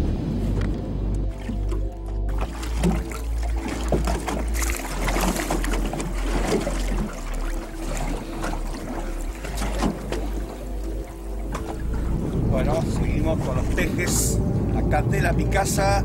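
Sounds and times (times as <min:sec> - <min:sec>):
wind rumble on microphone: 0:00.0 - 0:16.0
water slapping against boat: 0:01.3 - 0:16.0.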